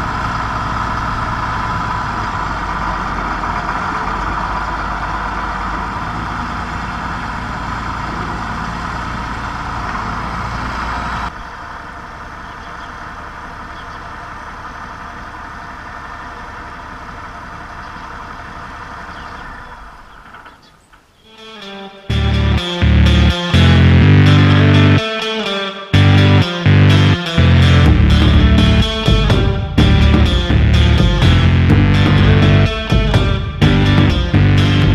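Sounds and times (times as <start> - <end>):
tractor engine idling: 0.0 - 21.2, 22.1 - 25.1, 25.9 - 34.9.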